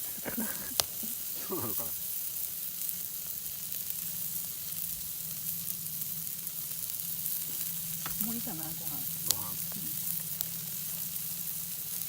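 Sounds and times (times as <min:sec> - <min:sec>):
faint ticking crackles: 0:00.0 - 0:12.0
food sizzling on a grill: 0:00.0 - 0:12.0.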